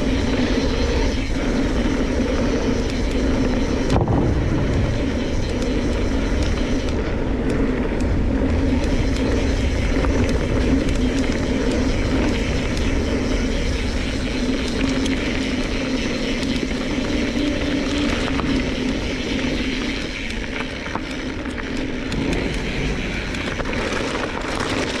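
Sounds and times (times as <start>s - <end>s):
bike tyres on gravel: 0.0s - 25.0s
small clicks and rattles: 4.7s - 25.0s.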